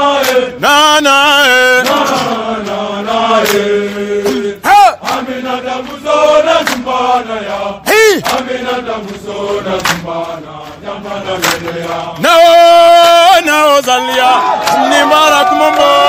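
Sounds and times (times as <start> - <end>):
soldiers chanting: 0.0 - 16.0.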